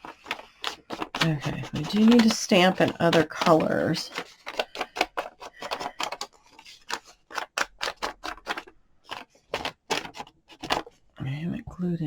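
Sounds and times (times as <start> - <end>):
craft supplies clicking and tapping: 0.0 - 10.9.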